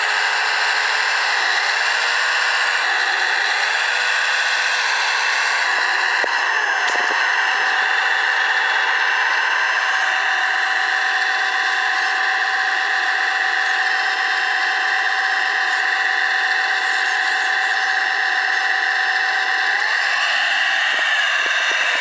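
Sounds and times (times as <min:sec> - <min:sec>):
model drive motors whining: 0:00.0 - 0:22.0.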